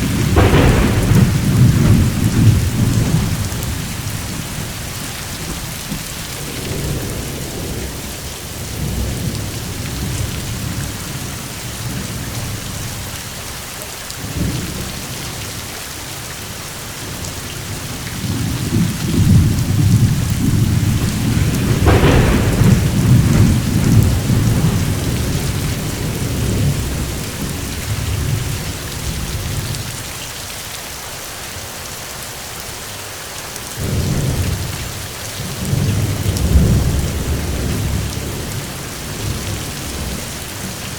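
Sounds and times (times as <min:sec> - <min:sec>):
rolling thunder: 0:00.0 - 0:13.1, 0:17.0 - 0:30.0, 0:33.8 - 0:40.9
steady rain: 0:00.0 - 0:40.9.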